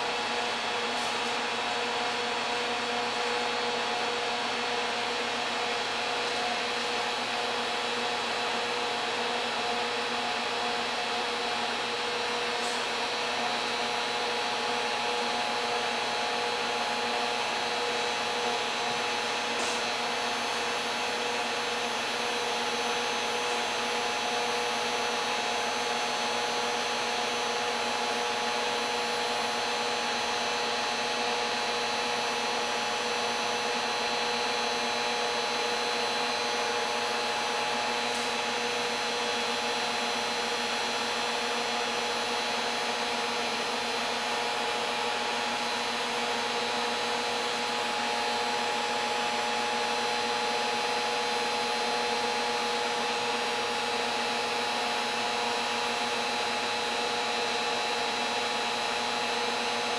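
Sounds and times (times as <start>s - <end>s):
induction heater whine: 0.0s - 59.9s.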